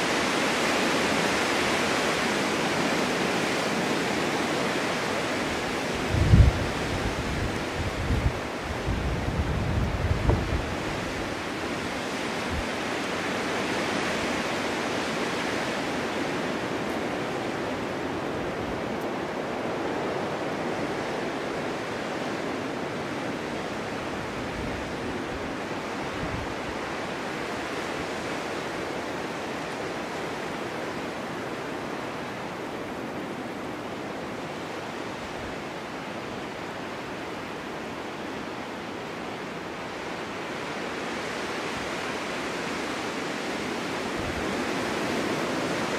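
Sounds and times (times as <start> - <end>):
snowstorm wind blowing: 0.0 - 45.9.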